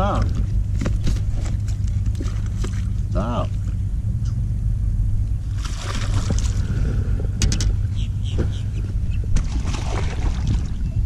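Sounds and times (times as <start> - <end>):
boat low hum: 0.0 - 11.0.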